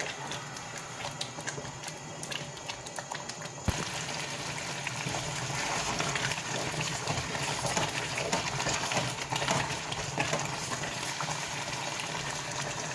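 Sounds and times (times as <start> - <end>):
pot bubbling: 0.0 - 12.9.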